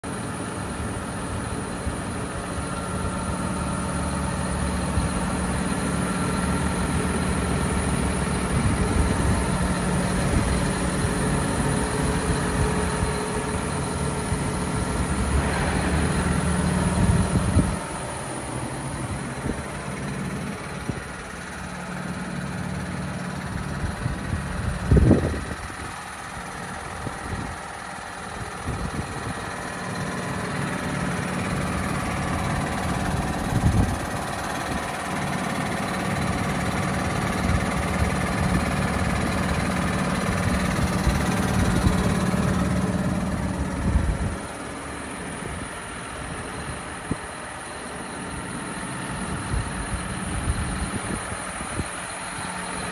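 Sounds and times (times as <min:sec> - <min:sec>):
tractor diesel engine idling: 0:00.0 - 0:52.9.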